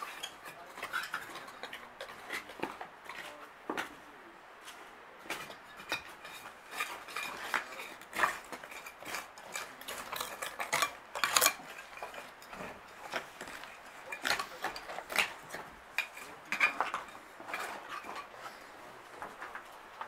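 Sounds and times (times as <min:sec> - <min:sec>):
metal trowels scraping soil and stones: 0:00.0 - 0:03.4, 0:04.7 - 0:18.9.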